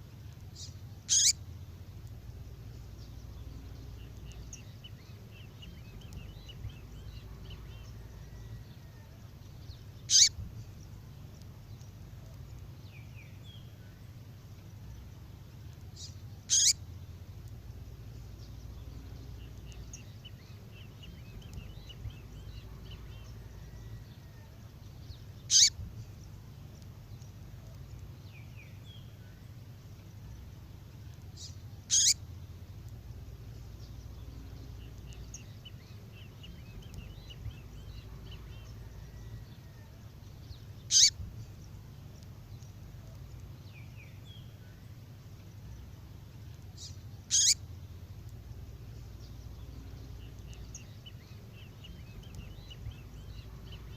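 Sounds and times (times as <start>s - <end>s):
low steady hum: 0.0s - 53.9s
songbird call notes: 0.0s - 53.9s
faint high twittering: 0.5s - 1.5s, 2.1s - 15.1s, 15.9s - 30.6s, 31.3s - 32.4s, 33.2s - 53.9s.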